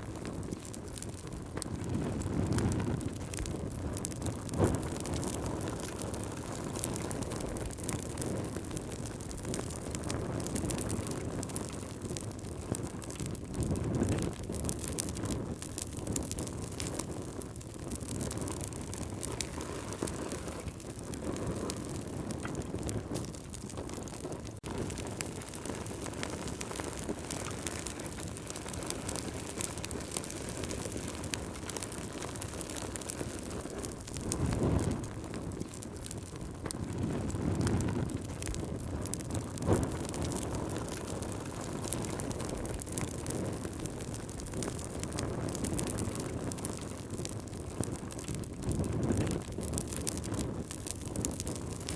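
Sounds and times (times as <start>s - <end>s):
campfire crackling: 0.0s - 51.9s
low rushing of fire: 0.0s - 51.9s.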